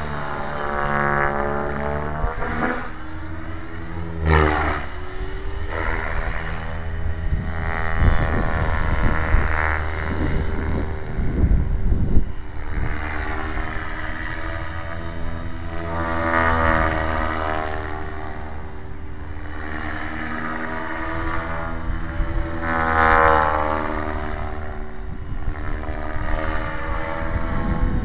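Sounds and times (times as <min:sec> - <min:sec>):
rc helicopter rotor whine: 0:00.0 - 0:28.0
wind buffeting microphone: 0:00.0 - 0:28.0.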